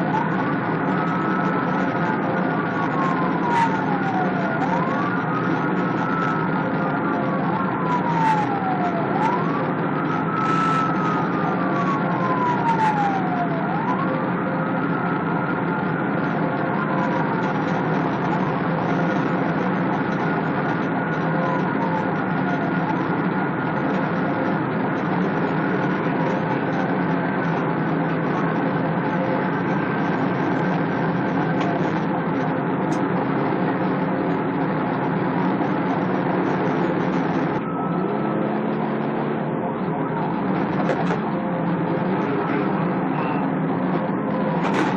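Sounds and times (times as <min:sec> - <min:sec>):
faint siren wails: 0:00.0 - 0:44.9
vehicle engine and road noise: 0:00.0 - 0:44.9.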